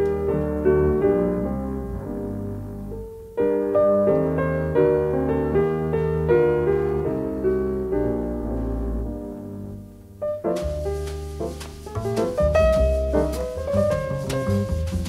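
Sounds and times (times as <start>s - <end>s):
jazz piano playing chords: 0.0s - 15.0s.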